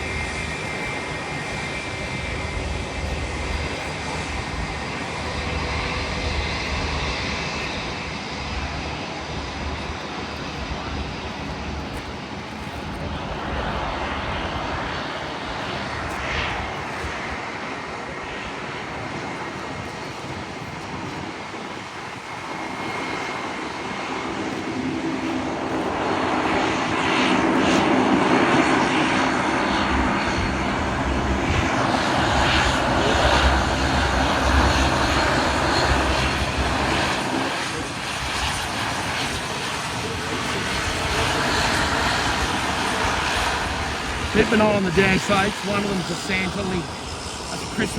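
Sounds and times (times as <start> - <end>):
airliner engines passing: 0.0 - 47.9.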